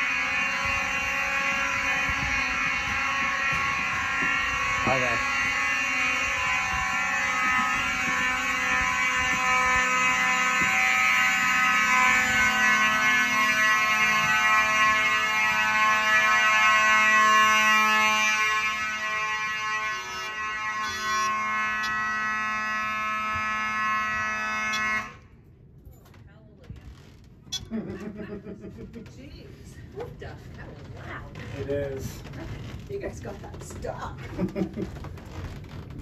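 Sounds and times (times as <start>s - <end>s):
fire alarm horns blaring: 0.0s - 36.0s.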